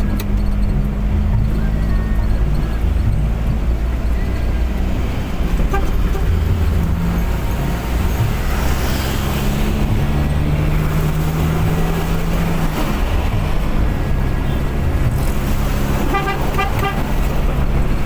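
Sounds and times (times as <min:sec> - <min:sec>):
car engine hum: 0:00.0 - 0:18.0
road and tyre noise: 0:00.0 - 0:18.0.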